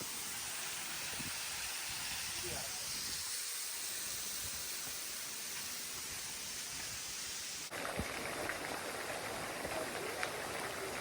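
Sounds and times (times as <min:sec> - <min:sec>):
falling water hissing: 0:00.0 - 0:11.0.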